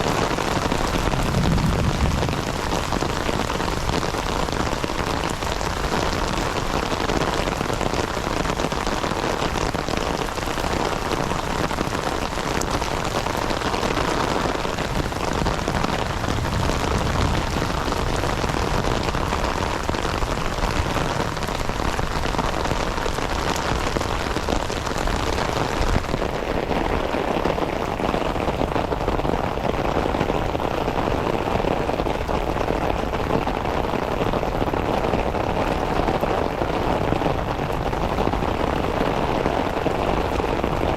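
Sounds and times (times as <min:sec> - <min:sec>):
heavy rain on ground and foliage: 0:00.0 - 0:40.9.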